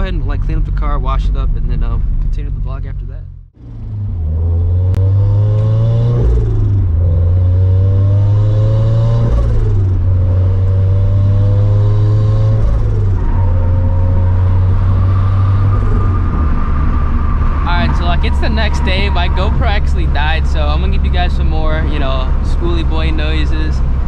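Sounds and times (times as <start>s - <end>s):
heavy exhaust rumble: 0.0s - 8.1s, 12.5s - 24.0s
turbocharged car engine accelerating: 0.0s - 24.0s.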